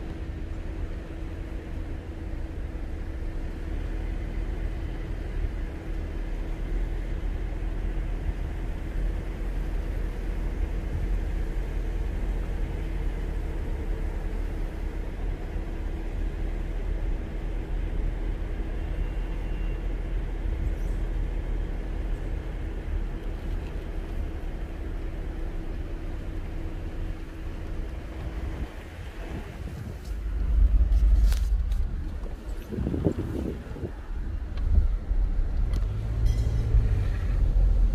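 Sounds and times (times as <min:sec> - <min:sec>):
car engine and road noise: 0:00.0 - 0:37.9.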